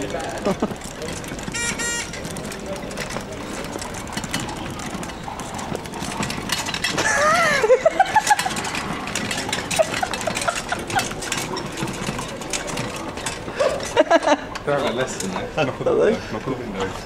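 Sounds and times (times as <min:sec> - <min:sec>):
scooter rattling over cobblestones: 0:00.0 - 0:17.0.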